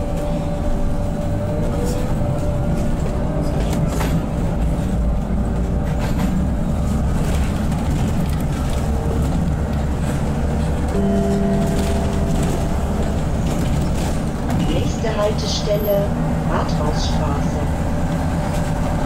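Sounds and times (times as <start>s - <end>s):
bus engine low rumble: 0.0s - 19.0s.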